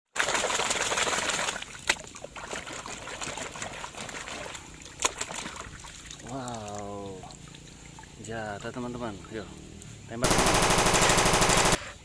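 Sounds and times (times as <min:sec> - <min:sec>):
water splashing: 0:00.1 - 0:10.7
water trickling: 0:00.2 - 0:10.2.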